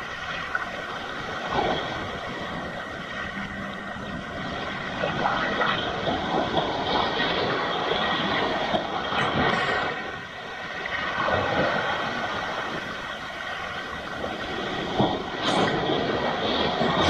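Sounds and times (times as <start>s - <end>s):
waves breaking on rocky shore: 0.0s - 17.0s.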